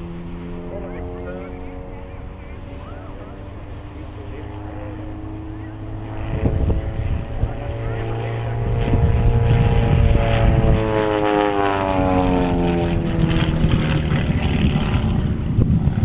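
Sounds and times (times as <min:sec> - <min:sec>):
propeller plane engine running hard: 0:00.0 - 0:16.0.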